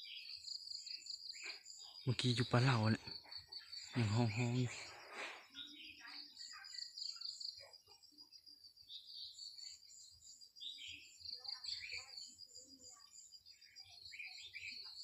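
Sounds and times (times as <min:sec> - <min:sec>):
bird chirping calls: 0:00.0 - 0:15.0.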